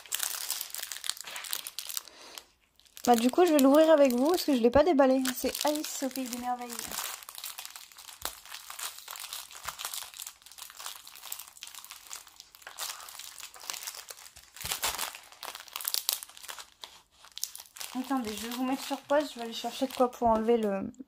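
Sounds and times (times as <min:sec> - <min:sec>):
plastic film crinkling: 0:00.0 - 0:20.8.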